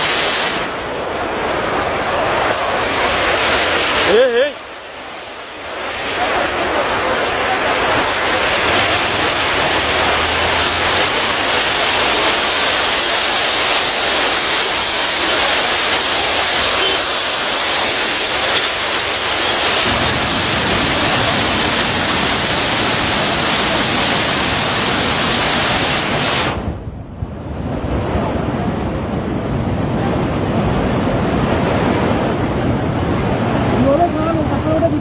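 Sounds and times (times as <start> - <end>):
water rushing over weir: 0.0 - 35.0
wind rumbling on microphone: 0.0 - 35.0.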